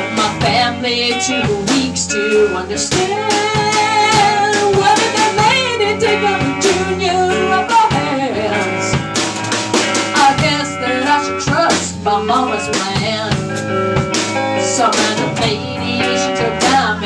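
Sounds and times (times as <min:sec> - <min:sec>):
woman singing: 0:00.0 - 0:09.2, 0:10.0 - 0:13.7, 0:14.5 - 0:17.0
drum kit: 0:00.0 - 0:17.0
electric guitar: 0:00.0 - 0:17.0.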